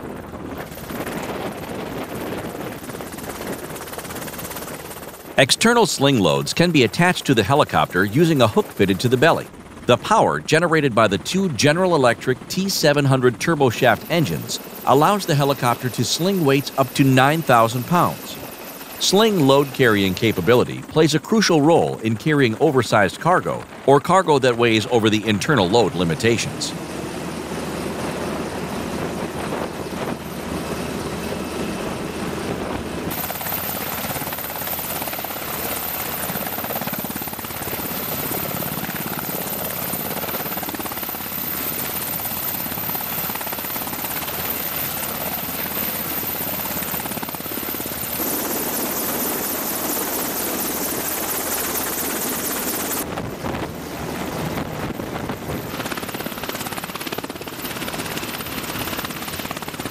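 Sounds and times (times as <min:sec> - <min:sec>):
helicopter hovering overhead: 0:00.0 - 0:59.9.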